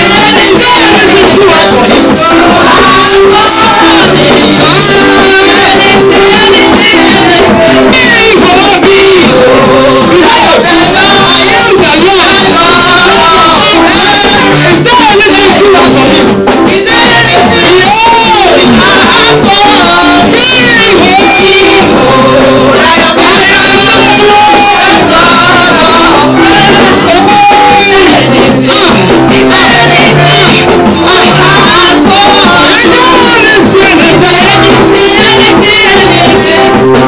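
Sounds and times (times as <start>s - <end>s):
band with drums and percussion: 0.0s - 37.0s
congregation singing: 0.0s - 37.0s
women singing into microphones: 0.0s - 37.0s.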